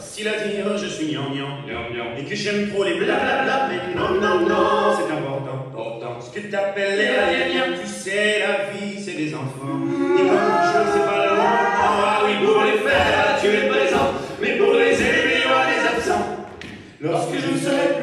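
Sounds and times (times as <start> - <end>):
voices singing harmonies: 1.6 - 18.0.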